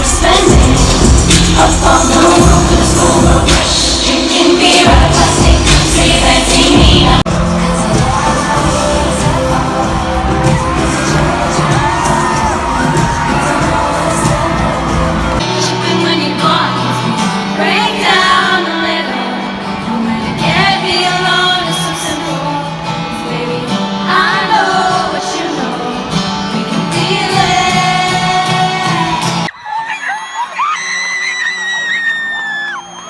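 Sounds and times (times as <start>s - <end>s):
person singing: 0.0s - 29.5s
live pop concert music: 0.0s - 33.0s.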